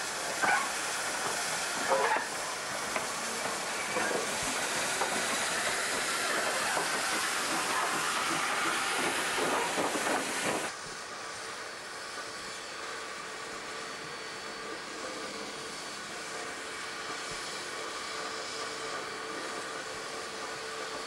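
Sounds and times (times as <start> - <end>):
diesel locomotive engine running: 0.0 - 21.0
steam locomotive hissing: 0.0 - 21.0.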